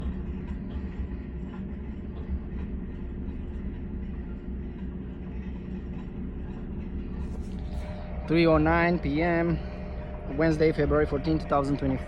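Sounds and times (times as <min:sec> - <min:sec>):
drilling rig machinery rumbling: 0:00.0 - 0:12.0.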